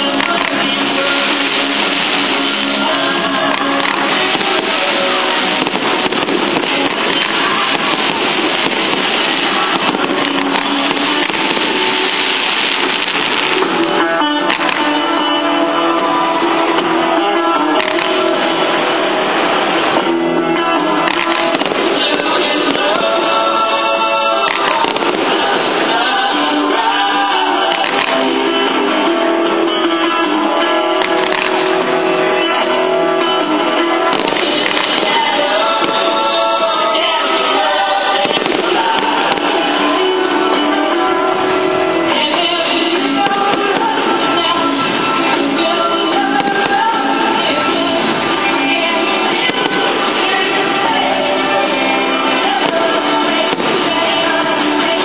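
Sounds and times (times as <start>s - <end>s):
fireworks crackling and popping: 0.0s - 55.0s
rock music over sound system: 0.0s - 55.0s.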